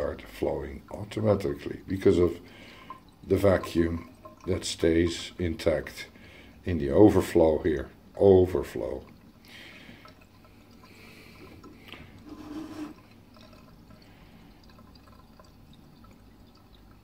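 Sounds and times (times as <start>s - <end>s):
thin tap stream running: 0.0s - 17.0s
water trickling into steel sink: 0.0s - 17.0s.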